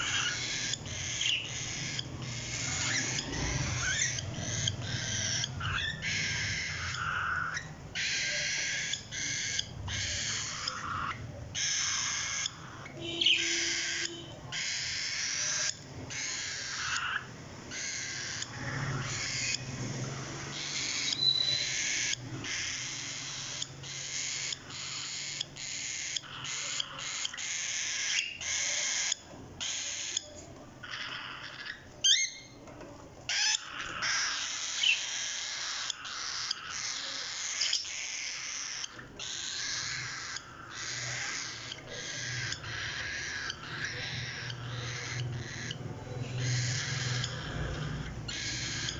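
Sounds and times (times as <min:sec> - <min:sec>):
parrot chicks raspy hissing calls: 0:00.0 - 0:32.2, 0:33.3 - 0:48.9.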